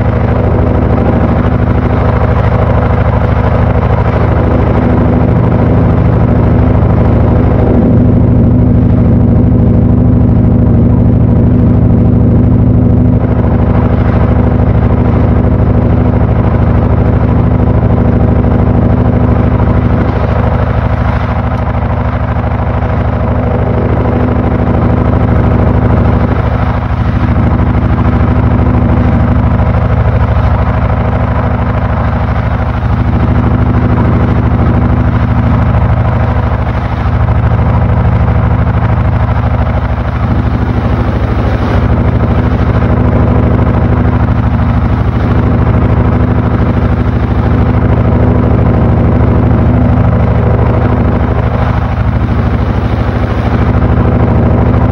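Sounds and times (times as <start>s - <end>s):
washing machine motor humming: 0.0s - 54.9s.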